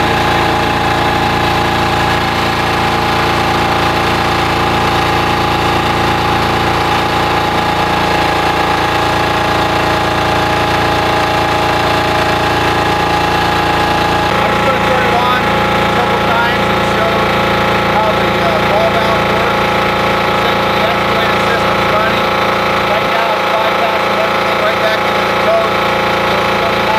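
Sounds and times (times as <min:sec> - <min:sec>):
small diesel engine running: 0:00.0 - 0:26.9.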